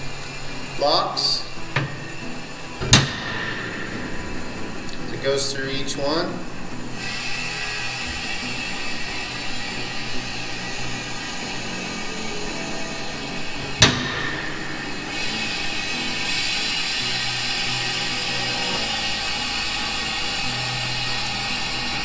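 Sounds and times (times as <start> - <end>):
steady air hiss: 0.0 - 22.0
sharp metallic clack: 0.7 - 22.0.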